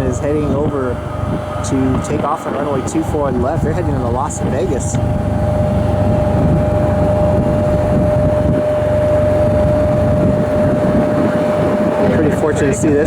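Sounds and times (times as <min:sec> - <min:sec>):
constant high whine: 0:00.0 - 0:13.0
engine rumble: 0:00.0 - 0:13.0.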